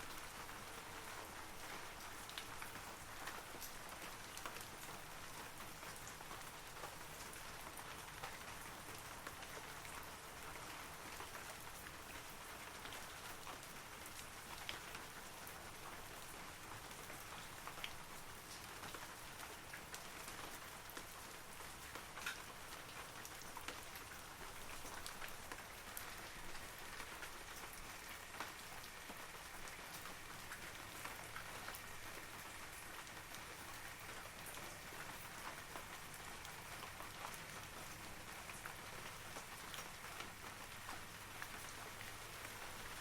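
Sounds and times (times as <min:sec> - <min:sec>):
rain falling on trees: 0:00.0 - 0:43.0.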